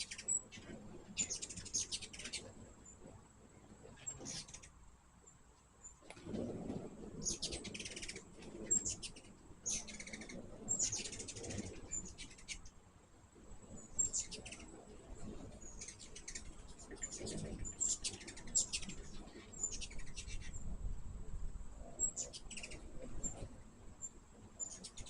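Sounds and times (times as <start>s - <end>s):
hummingbirds chattering: 0.0s - 20.6s, 21.8s - 25.0s
hummingbird wings humming: 0.0s - 25.0s.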